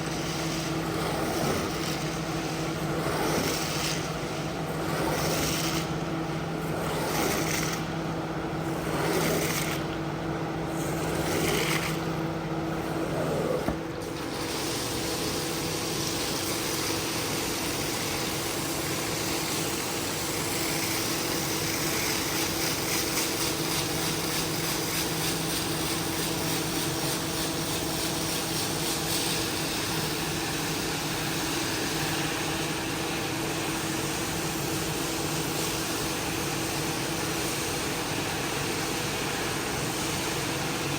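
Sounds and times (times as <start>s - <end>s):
cleaning machine humming and hissing: 0.0s - 40.9s.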